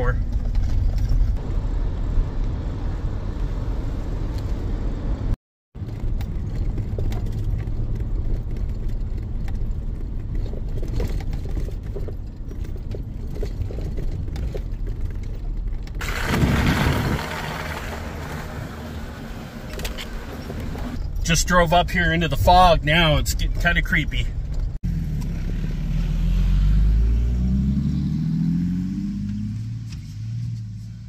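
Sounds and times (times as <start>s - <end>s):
engine and tyres on muddy road: 0.0s - 31.0s.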